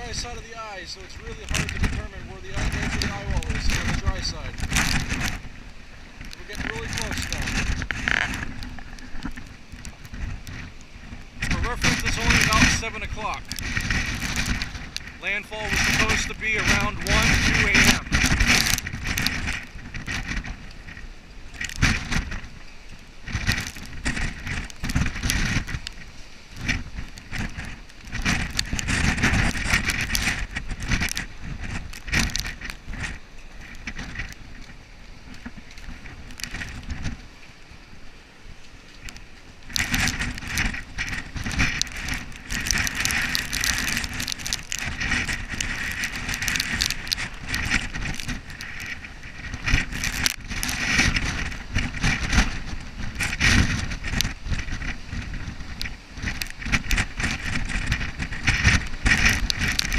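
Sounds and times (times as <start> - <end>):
driving rain: 0.0 - 59.9
hurricane wind gusting: 0.0 - 59.9.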